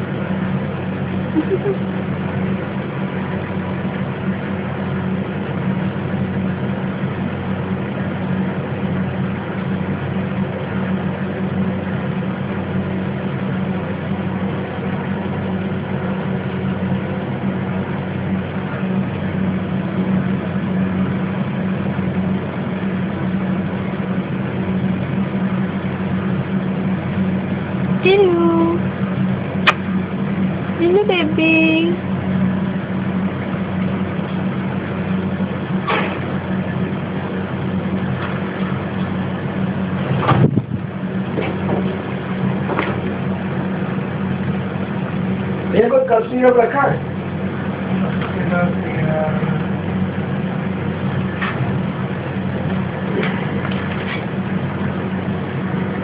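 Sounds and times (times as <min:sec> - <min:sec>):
low motor hum: 0:00.0 - 0:56.0.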